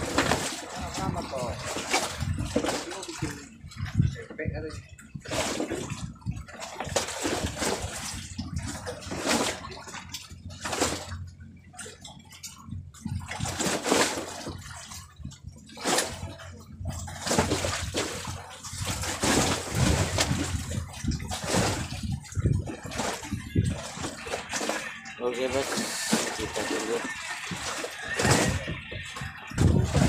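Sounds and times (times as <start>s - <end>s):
water slapping against wooden boat: 0.0s - 30.0s.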